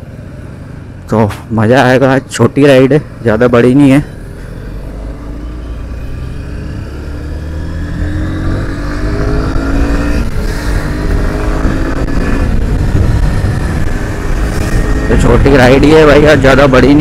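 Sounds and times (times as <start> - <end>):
low wind rumble: 0.0 - 17.0
motorcycle engine accelerating: 3.0 - 17.0.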